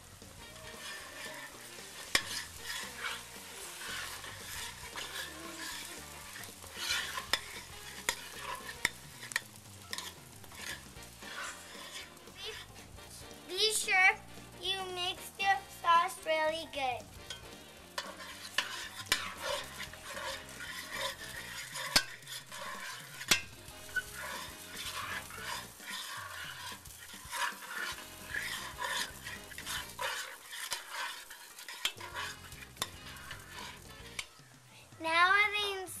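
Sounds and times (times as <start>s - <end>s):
spoon scraping through vegetables: 0.0s - 13.5s, 14.2s - 34.6s
vegetables sizzling: 0.0s - 36.0s.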